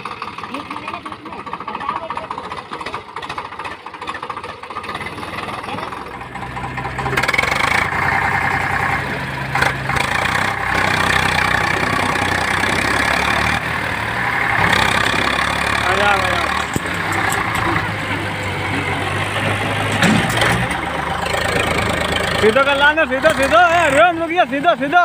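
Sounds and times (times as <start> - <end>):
tractor diesel engine revving: 0.0 - 25.0.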